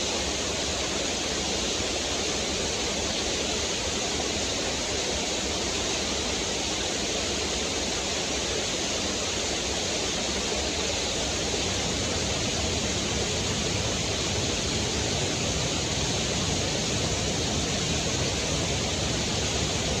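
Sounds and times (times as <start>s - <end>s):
waterfall pouring over rocks: 0.0s - 20.0s.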